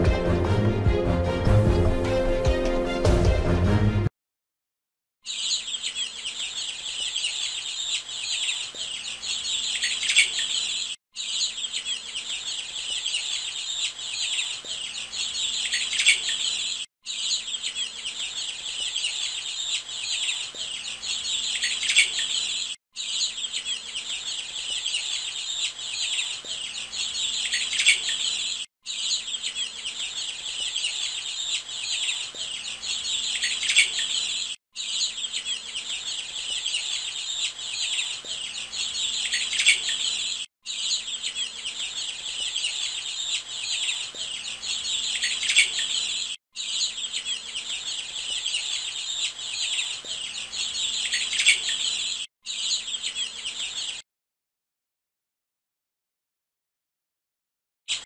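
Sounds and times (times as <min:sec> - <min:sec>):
baby chicks peeping: 0:05.2 - 0:54.0.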